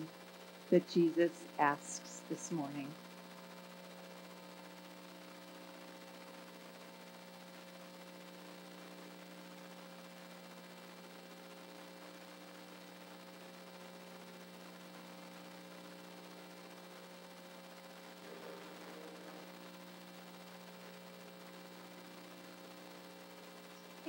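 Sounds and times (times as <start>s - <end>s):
electrical mains hum: 0.0s - 24.0s
faint hiss: 0.0s - 24.0s.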